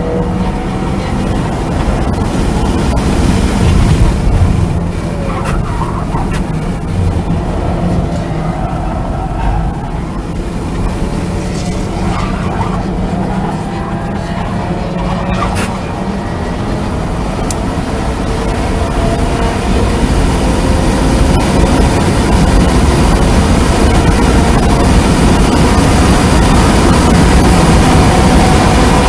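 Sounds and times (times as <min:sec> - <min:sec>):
wind and tyre noise: 0:00.0 - 0:29.0.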